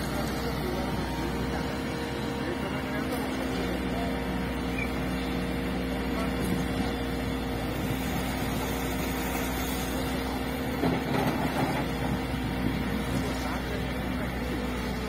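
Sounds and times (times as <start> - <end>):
excavator diesel engine running: 0.0 - 15.0
loud engine clatter: 0.0 - 15.0.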